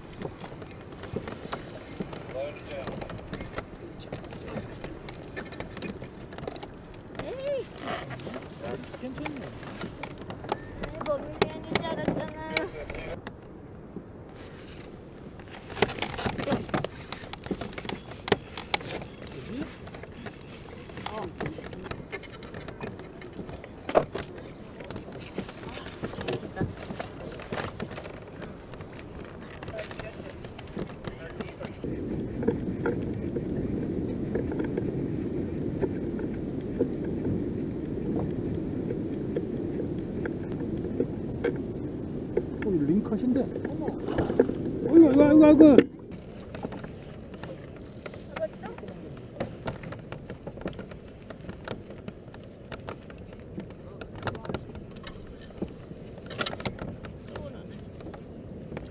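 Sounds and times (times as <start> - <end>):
water lapping against hull: 0.0 - 13.2, 13.8 - 58.9
fishing gear clicks and knocks: 0.0 - 13.5, 14.8 - 58.9
wind rumbling: 0.0 - 58.9.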